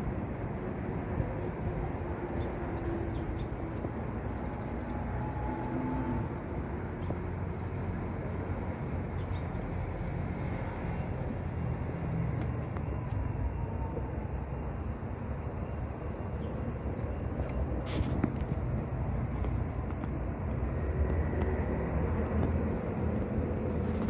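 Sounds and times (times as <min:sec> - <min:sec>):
distant traffic rumble: 0:00.0 - 0:24.0.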